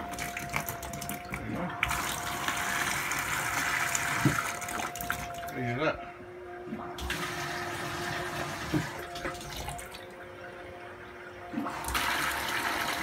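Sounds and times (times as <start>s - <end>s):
tap water gushing into bucket: 0.0s - 5.6s, 7.0s - 10.2s, 11.4s - 13.0s.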